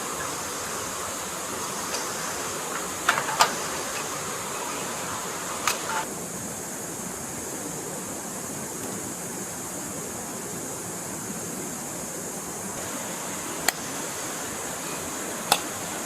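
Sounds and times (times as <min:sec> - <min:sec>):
steady high hiss: 0:00.0 - 0:16.0
stream water flowing: 0:00.0 - 0:16.0.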